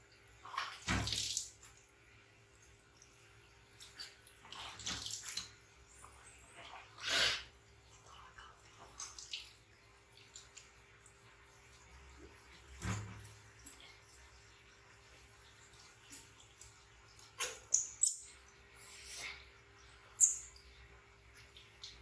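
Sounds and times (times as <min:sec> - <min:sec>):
water splashing from a basin: 0:00.0 - 0:01.9, 0:02.6 - 0:18.5.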